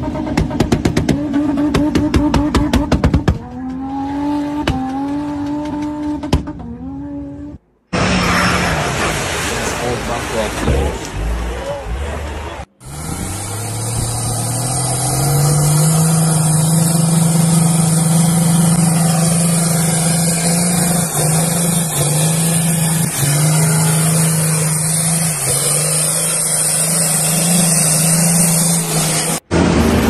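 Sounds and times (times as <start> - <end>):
diesel engine at high revs: 0.0 - 30.0.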